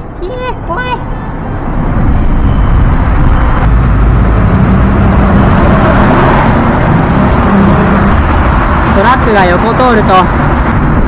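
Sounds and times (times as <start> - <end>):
truck passing in tunnel: 1.0 - 11.0.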